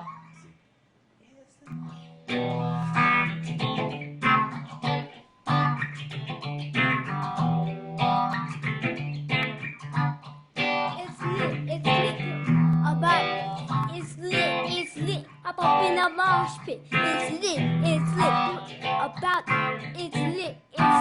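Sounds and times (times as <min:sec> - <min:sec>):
plucked string instrument chords: 0:01.7 - 0:21.0.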